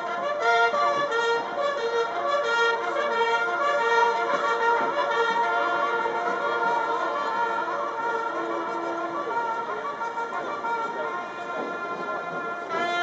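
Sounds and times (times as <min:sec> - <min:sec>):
military band and bugles playing: 0:00.0 - 0:13.0.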